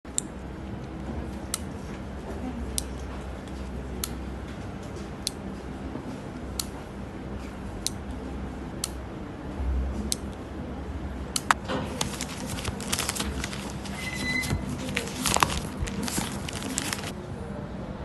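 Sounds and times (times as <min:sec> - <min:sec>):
low background hum: 0:00.1 - 0:18.0.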